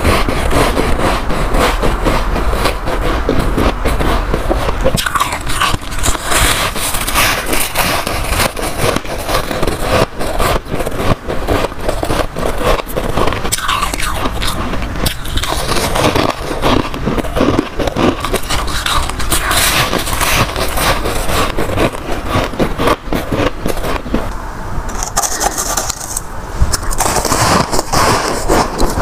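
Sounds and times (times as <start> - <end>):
chewing crunchy frost: 0.0 - 29.0.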